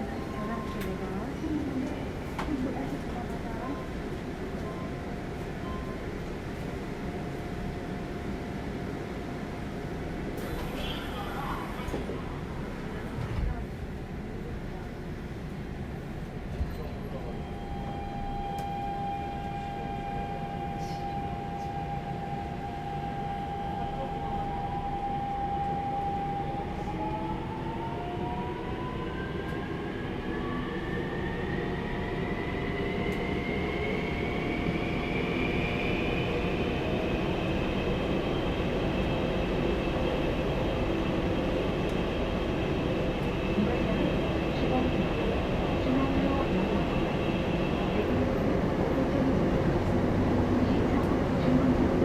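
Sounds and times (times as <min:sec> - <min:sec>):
train wheel and track rumble: 0:00.0 - 0:52.0.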